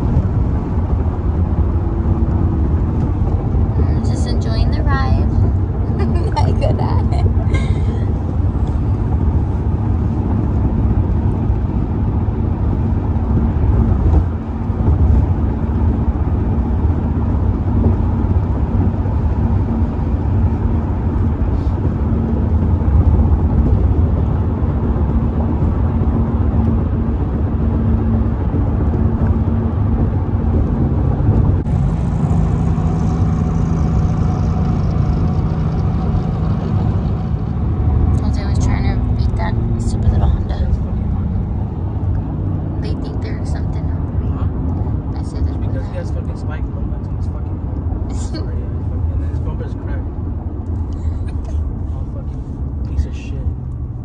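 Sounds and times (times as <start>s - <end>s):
car cabin road and engine rumble: 0.0s - 54.0s.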